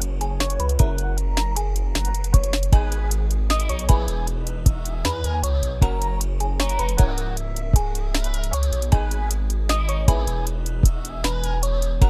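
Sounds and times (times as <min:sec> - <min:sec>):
pitched melody line: 0:00.0 - 0:10.7
deep bass: 0:00.0 - 0:12.0
rapid hi-hat ticks: 0:00.0 - 0:12.0.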